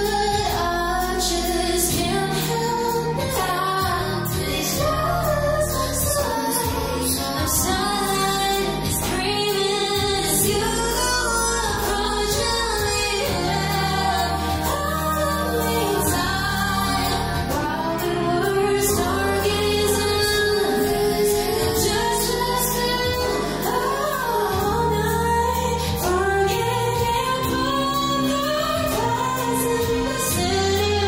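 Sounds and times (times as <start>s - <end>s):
bass notes: 0.0s - 31.0s
woman singing pop ballad: 0.0s - 31.0s.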